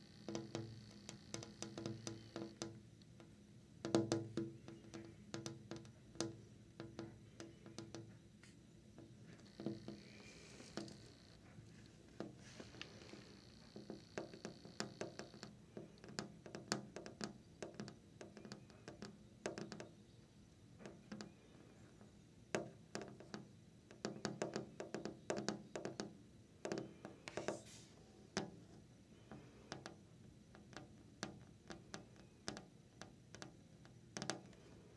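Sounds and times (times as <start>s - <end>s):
fingernails tapping on window: 0.0s - 8.2s, 8.9s - 11.5s, 12.1s - 20.0s, 20.8s - 21.4s, 22.5s - 27.6s, 28.3s - 34.8s.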